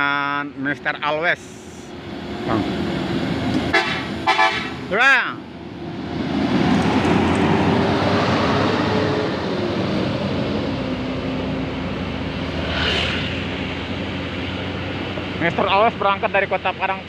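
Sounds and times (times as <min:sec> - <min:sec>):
bus passing by: 0:00.0 - 0:17.0
road rumble: 0:00.0 - 0:17.0.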